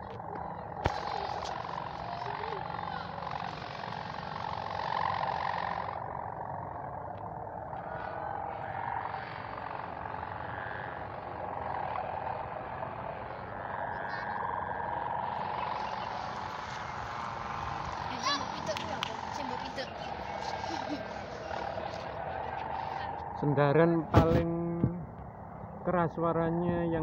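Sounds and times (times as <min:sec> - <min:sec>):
kite hummers droning: 0:00.0 - 0:27.0.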